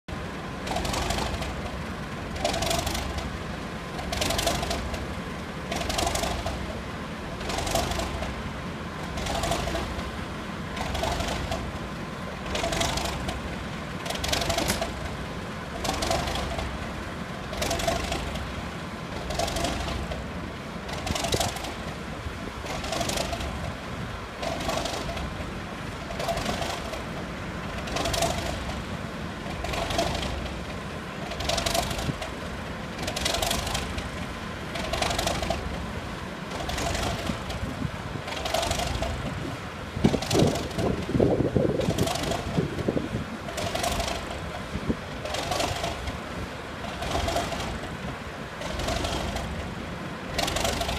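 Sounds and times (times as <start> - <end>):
diesel locomotive engine rumbling: 0.0 - 50.9.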